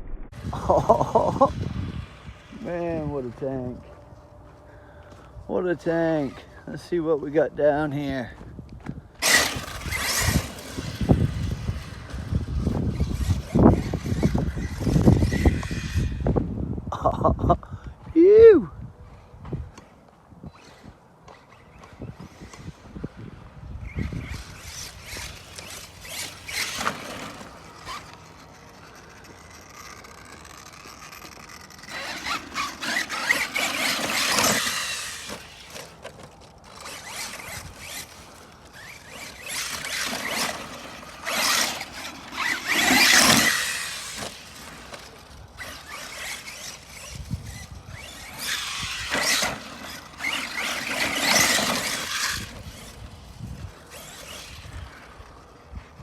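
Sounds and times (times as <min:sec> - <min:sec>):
rc truck motor whining: 0:00.3 - 0:16.8, 0:19.1 - 0:56.0.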